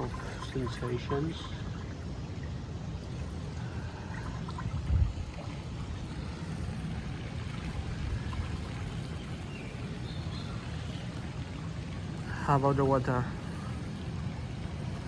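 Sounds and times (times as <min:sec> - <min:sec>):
pool water trickling and sloshing: 0:00.0 - 0:15.0.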